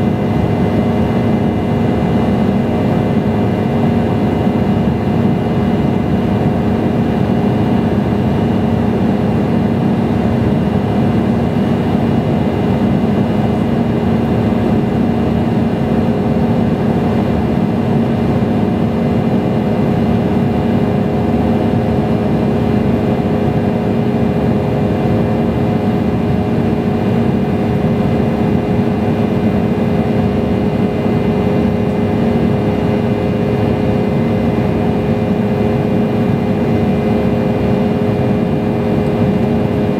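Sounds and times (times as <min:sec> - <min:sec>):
jet engine hum: 0:00.0 - 0:39.9.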